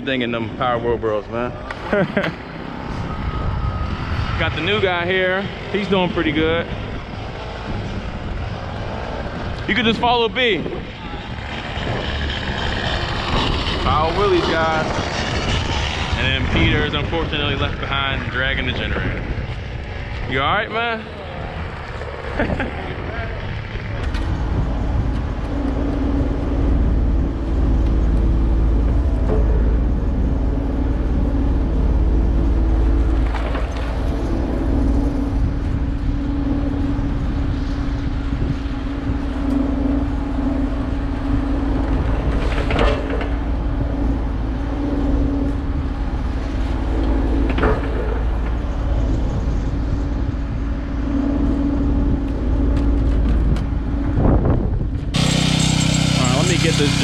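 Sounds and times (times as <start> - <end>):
generator engine running: 0.0 - 57.0.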